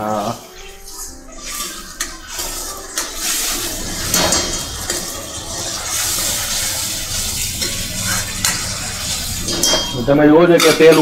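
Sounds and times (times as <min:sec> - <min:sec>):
ladle scraping metal pan: 0:00.0 - 0:11.0
masala sizzling in oil: 0:00.0 - 0:11.0.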